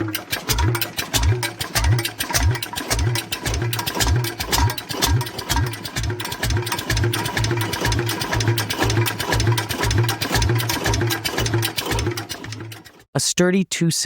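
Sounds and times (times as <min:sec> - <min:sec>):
stationary engine running: 0:00.0 - 0:13.0
valve gear clatter: 0:00.0 - 0:13.0.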